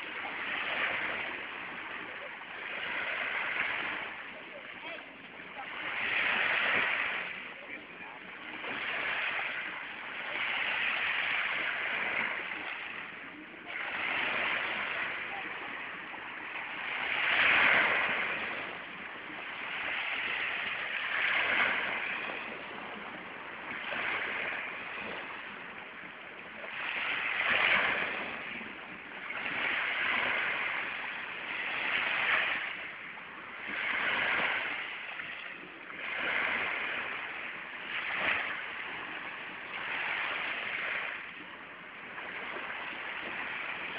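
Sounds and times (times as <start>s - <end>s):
small waves breaking on shore: 0.0s - 43.9s.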